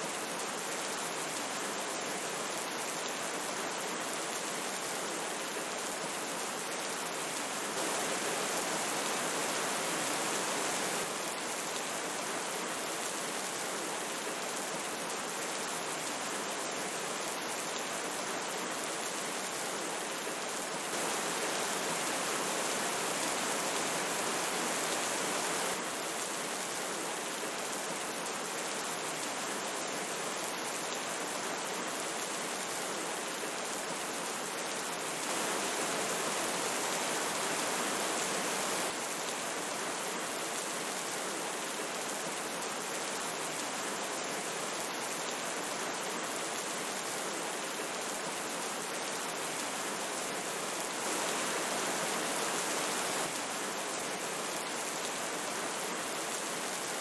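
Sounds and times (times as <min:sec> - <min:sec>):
flowing river: 0:00.0 - 0:57.0
rain falling: 0:00.1 - 0:57.0.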